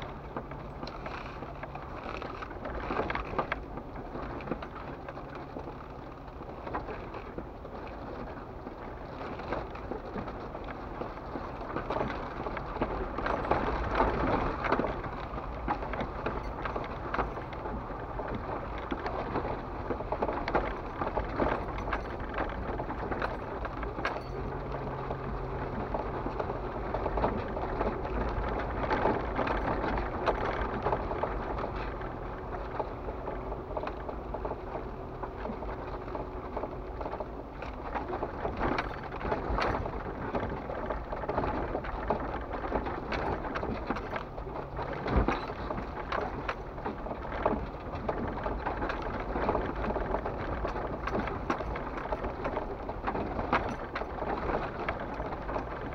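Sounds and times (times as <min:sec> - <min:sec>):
engine running low: 0:00.0 - 0:55.9
knocks and rattles: 0:00.0 - 0:55.9
tyres crunching over rocks: 0:00.0 - 0:55.9.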